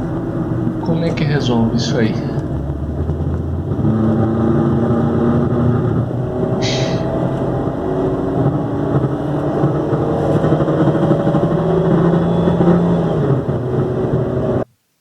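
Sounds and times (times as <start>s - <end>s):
car engine running with rattling: 0.0s - 14.7s.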